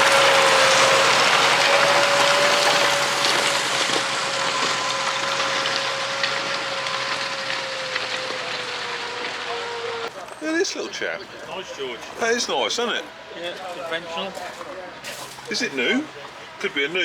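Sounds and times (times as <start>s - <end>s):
machinery whine: 0.0s - 17.0s.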